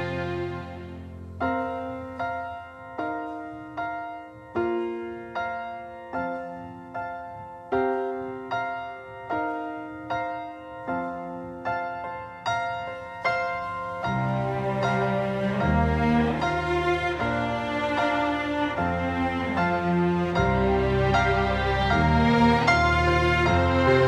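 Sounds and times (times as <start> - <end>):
piano chord: 0.0 - 24.0
piano single notes: 0.0 - 24.0.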